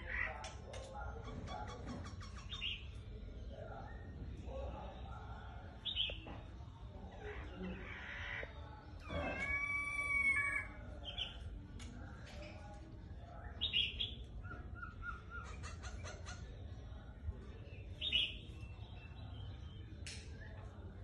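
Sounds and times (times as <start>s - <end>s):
bird singing: 1.2s - 11.6s, 12.3s - 21.0s.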